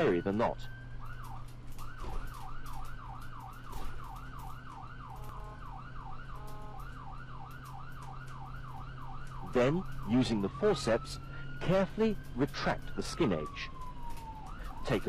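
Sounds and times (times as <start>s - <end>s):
siren in fast yelp: 0.0s - 15.0s.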